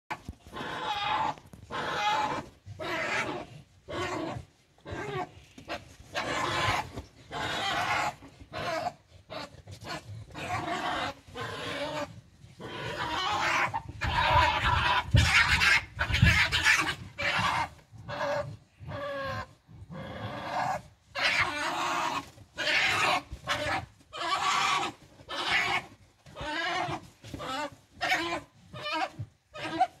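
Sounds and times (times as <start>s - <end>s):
badgers fighting with harsh cries: 0.1s - 30.0s.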